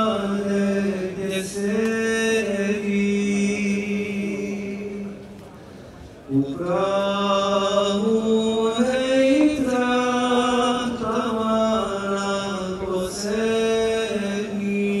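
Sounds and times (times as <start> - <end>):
man singing unaccompanied: 0.0 - 5.2, 6.3 - 15.0.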